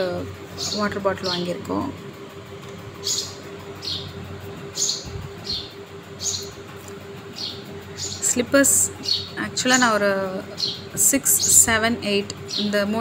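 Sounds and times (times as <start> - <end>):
steady low hum: 0.0 - 13.0
bird chirping: 0.5 - 1.9, 2.9 - 13.0.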